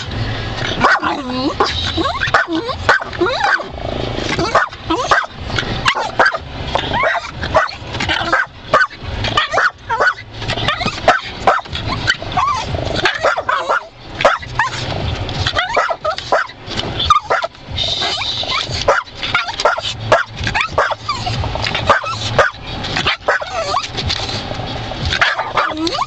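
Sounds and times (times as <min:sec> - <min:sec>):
windshield wipers sweeping: 0:00.0 - 0:26.0
dog barking and yipping: 0:00.7 - 0:24.1, 0:25.1 - 0:26.0.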